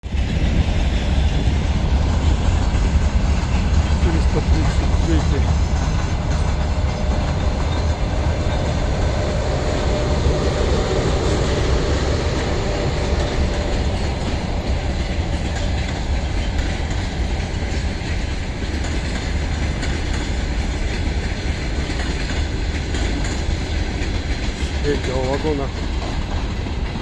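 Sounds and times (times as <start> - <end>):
passenger train rumbling past: 0.0 - 27.0
wheels clacking over rail joints: 0.0 - 27.0.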